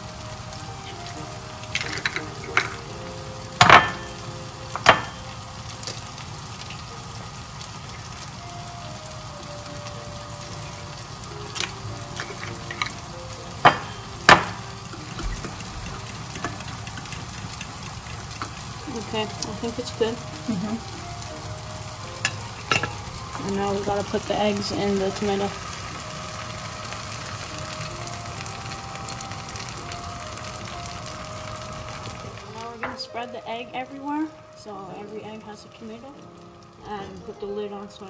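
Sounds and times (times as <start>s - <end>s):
tomatoes sizzling in a frying pan: 0.0s - 38.0s.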